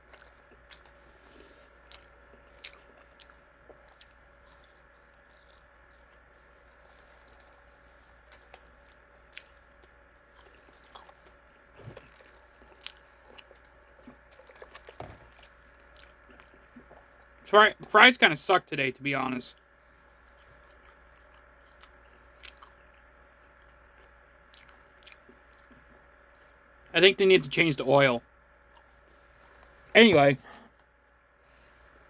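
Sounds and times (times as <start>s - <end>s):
faint chewing: 0.0s - 17.4s, 19.5s - 27.6s, 28.4s - 32.0s
faint steady hum: 0.0s - 32.0s.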